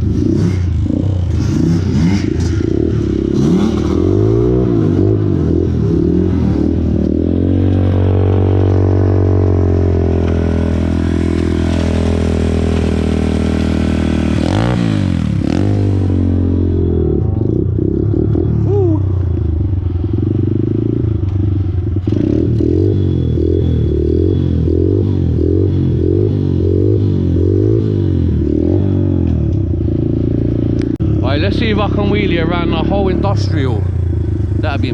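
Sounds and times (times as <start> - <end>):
pit bike engine revving: 0.0 - 34.9.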